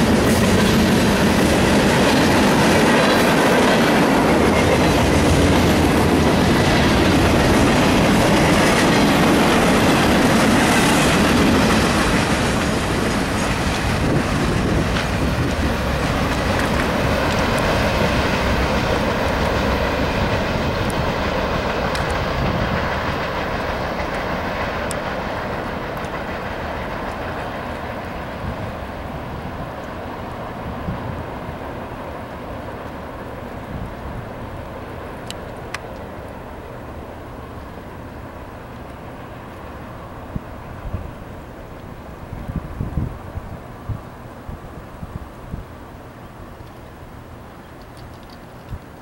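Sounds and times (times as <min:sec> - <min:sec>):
freight train cars rolling past: 0:00.0 - 0:49.0.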